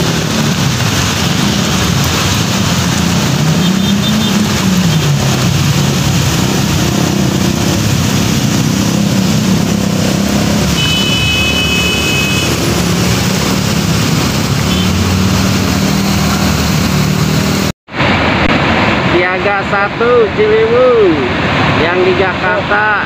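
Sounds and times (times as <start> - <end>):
motorbike and car engines revving: 0.0 - 19.1
floodwater rushing: 0.0 - 23.0
heavy rain: 0.0 - 23.0.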